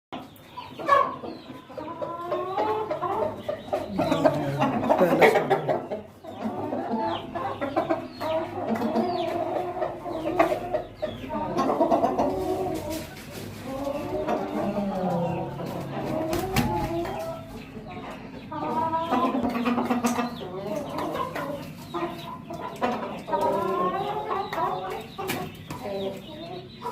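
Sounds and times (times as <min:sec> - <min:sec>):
chickens clucking: 0:00.2 - 0:26.9.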